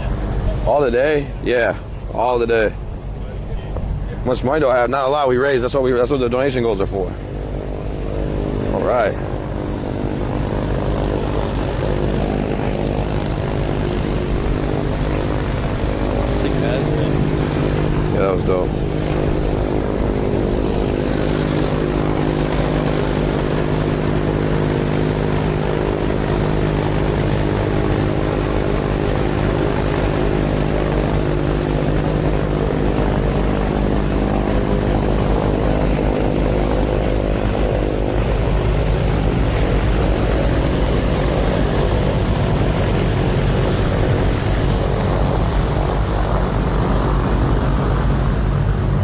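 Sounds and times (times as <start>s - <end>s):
helicopter rotor drone: 0.0s - 49.0s.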